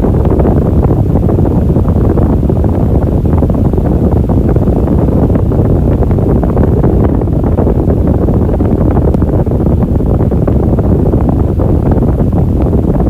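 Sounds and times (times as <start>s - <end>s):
electric fan running: 0.0s - 13.0s.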